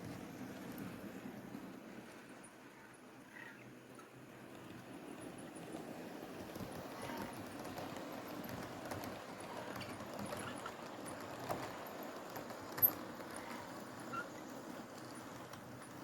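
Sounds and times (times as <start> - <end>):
model train running: 0.0 - 16.0
wheels clicking on rails: 0.0 - 16.0.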